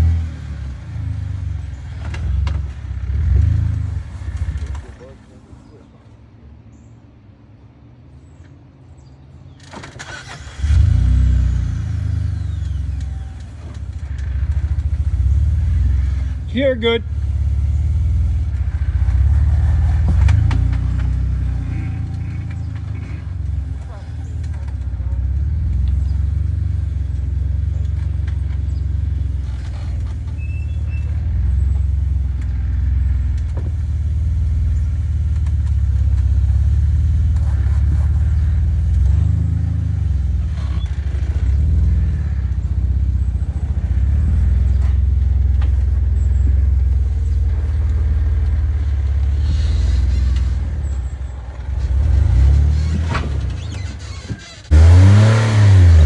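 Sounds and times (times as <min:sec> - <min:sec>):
car engine running at low revs: 0:00.0 - 0:56.0.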